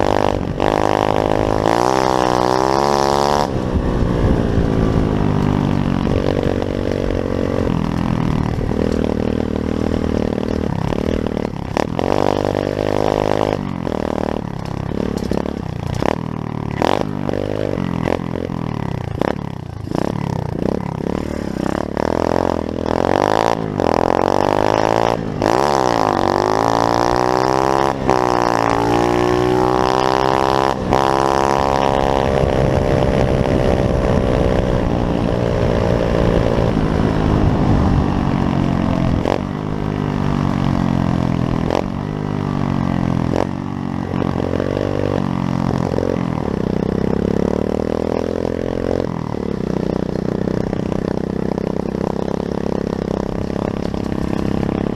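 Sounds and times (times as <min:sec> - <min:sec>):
small motorbike engine revving: 0:00.0 - 0:54.9.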